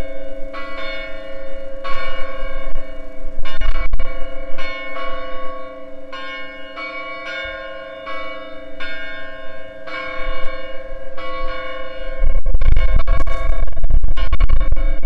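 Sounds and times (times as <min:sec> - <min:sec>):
church bells ringing: 0:00.0 - 0:13.6.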